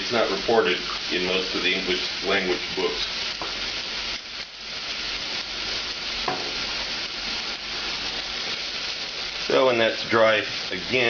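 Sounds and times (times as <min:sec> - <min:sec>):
vegetables sizzling in a saucepan: 0:00.0 - 0:11.0.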